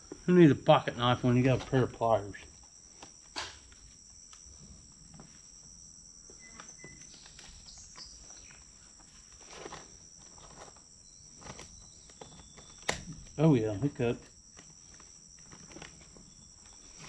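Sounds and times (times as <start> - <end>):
insects droning: 0.0 - 17.0
faint handling clicks and rustles: 1.2 - 17.0.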